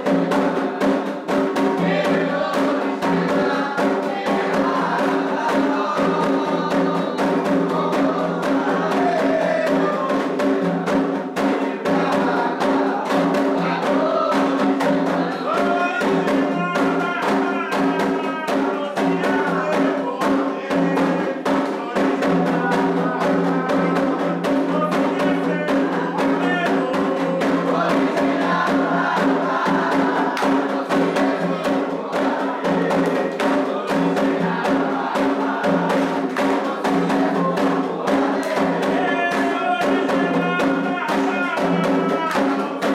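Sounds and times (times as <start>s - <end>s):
group singing: 0.0s - 42.9s
hand drums beating fast rhythm: 0.0s - 42.9s.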